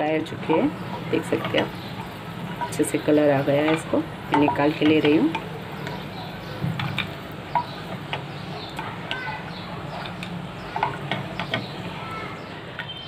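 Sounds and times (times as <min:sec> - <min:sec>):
spatula stirring nuts in a pan: 0:00.0 - 0:13.0.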